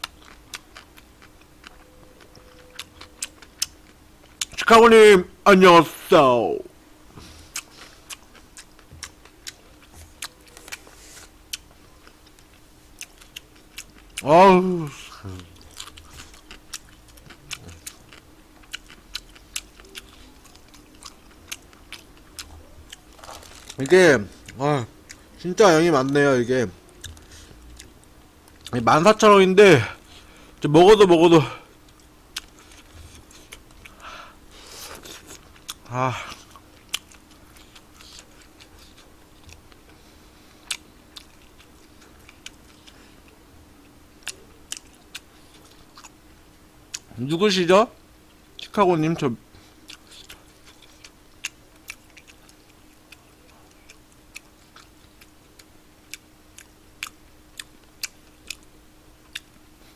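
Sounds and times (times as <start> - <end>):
person chewing: 0.0 - 4.6, 7.1 - 25.4, 26.9 - 28.8, 31.6 - 47.2, 49.5 - 59.9.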